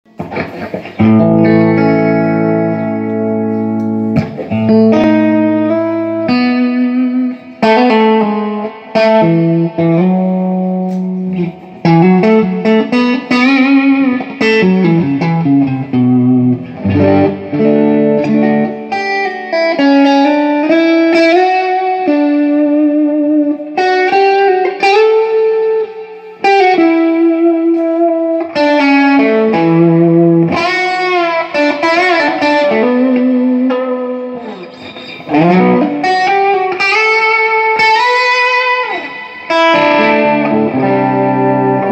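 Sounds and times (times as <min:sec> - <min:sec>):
electric guitar melodic phrases: 0:00.1 - 0:41.9.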